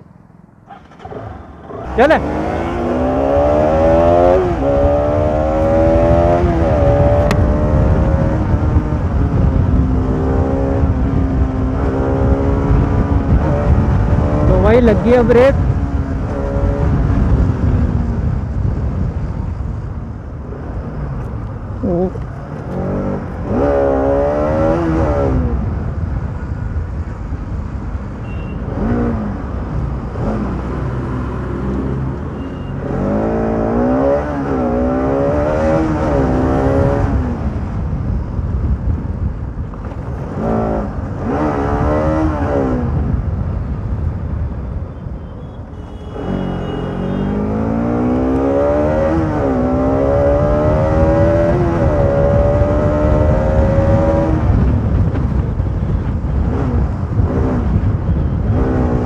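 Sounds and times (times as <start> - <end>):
wind and road noise: 0.0 - 59.0
motorcycle engine accelerating: 0.6 - 19.8, 28.6 - 44.7, 46.0 - 59.0.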